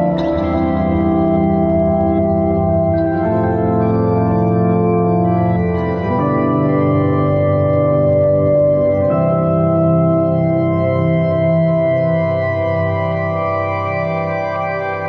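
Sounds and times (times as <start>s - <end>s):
slow organ chords: 0.0s - 15.0s.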